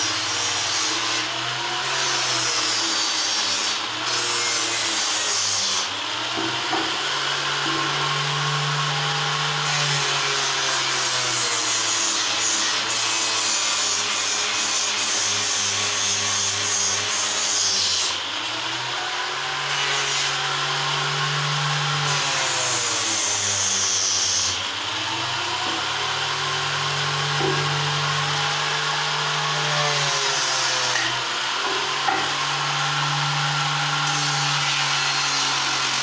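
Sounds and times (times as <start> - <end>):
power tool cutting wood: 0.0 - 36.0.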